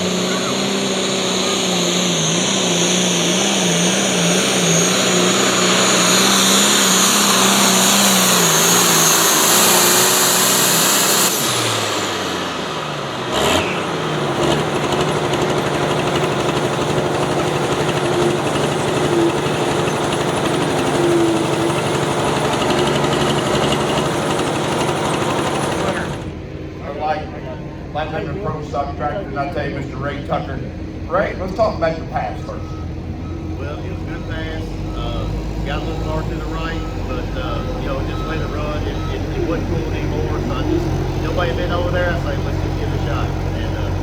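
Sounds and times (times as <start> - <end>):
tractor engine at full throttle: 0.0 - 26.6, 30.7 - 44.0
turbo whine: 0.0 - 27.3, 27.9 - 44.0.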